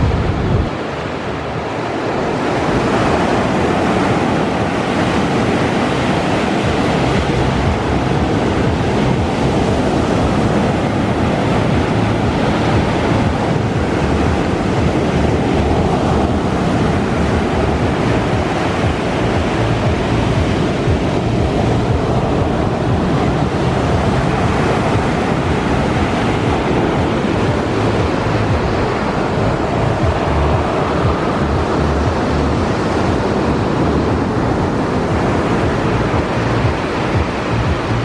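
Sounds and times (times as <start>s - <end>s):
waves breaking: 0.0s - 38.0s
wind on microphone: 0.0s - 38.0s.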